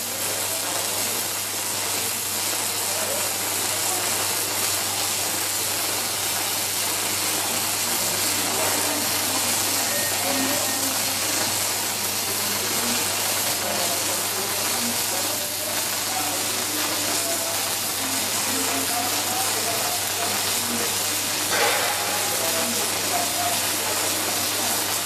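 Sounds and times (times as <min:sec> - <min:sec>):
welding arc hiss: 0:00.0 - 0:25.0.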